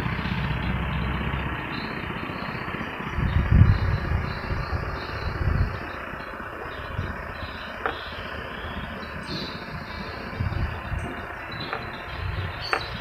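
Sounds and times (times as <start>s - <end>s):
low bumps: 0.0s - 13.0s
insects chirring: 1.7s - 13.0s.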